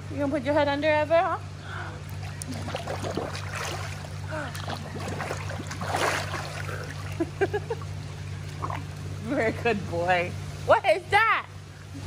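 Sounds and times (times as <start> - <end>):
pool water splashing: 0.0 - 12.0
steady low hum: 0.0 - 12.0.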